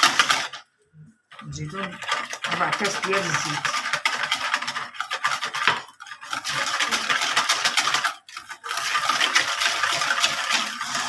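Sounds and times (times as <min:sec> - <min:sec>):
whisk scraping against bowl: 0:00.0 - 0:00.6, 0:01.3 - 0:11.0.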